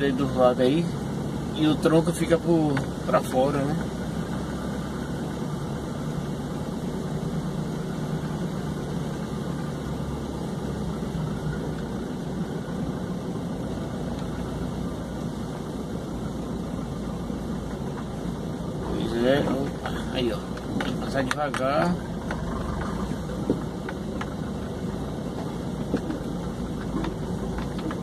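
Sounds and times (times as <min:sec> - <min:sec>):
truck diesel engine drone: 0:00.0 - 0:28.0.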